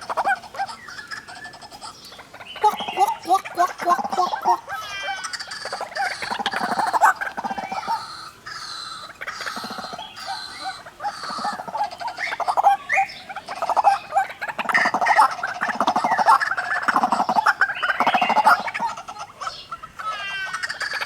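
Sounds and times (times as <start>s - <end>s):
waterhens harsh croaking calls: 0.0s - 21.0s.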